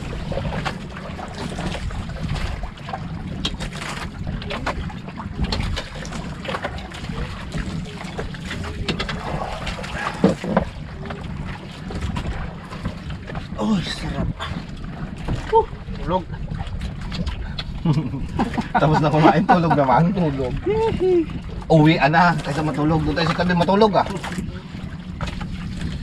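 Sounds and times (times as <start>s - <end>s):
water against boat hull: 0.0s - 26.0s
wind on microphone: 0.0s - 26.0s.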